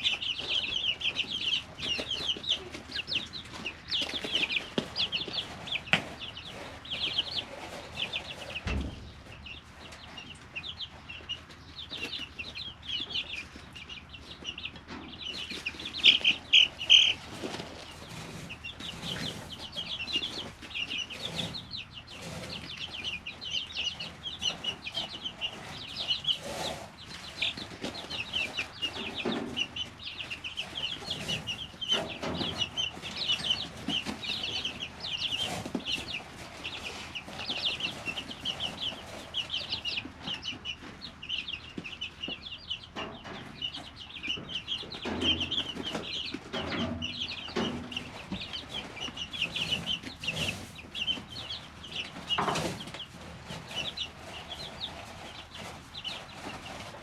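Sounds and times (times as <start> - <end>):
chicks peeping: 0.0 - 57.0
chicks scratching and scuffing: 0.0 - 57.0.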